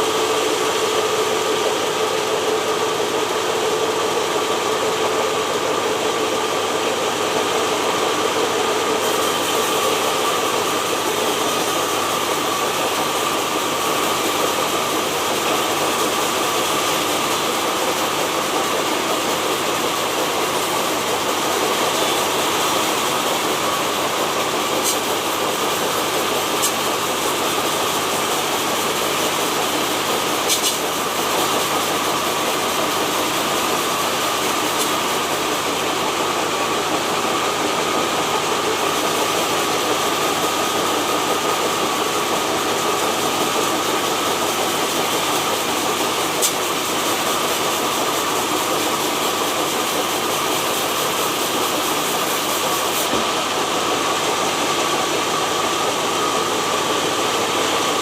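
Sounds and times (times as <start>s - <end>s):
sawmill saw whining: 0.0s - 58.0s.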